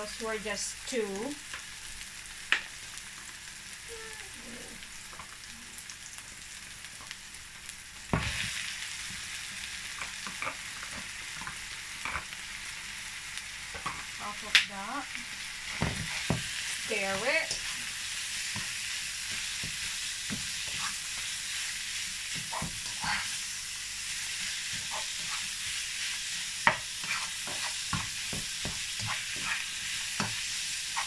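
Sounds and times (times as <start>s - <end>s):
onion sizzling in hot oil: 0.0s - 31.0s.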